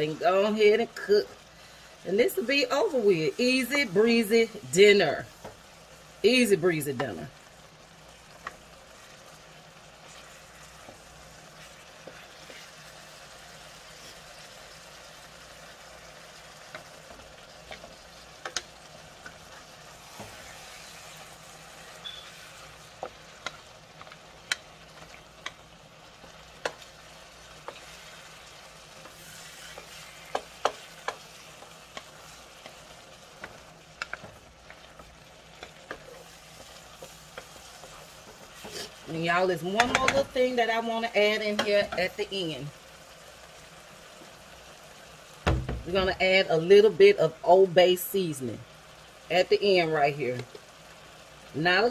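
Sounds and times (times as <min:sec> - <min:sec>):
food sizzling in a skillet: 0:00.0 - 0:51.9.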